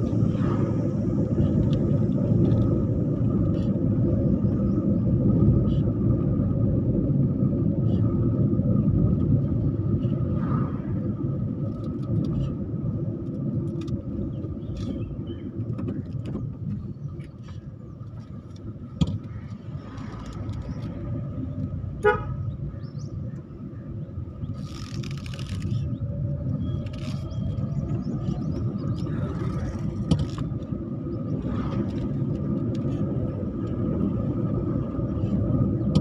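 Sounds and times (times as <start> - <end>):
vehicle rumble: 0.0 - 36.0.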